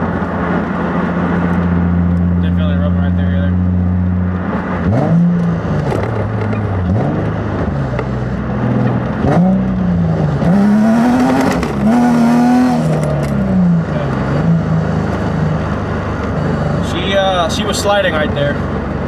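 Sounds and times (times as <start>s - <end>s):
car engine revving: 0.0s - 19.0s
tires sliding: 0.0s - 19.0s.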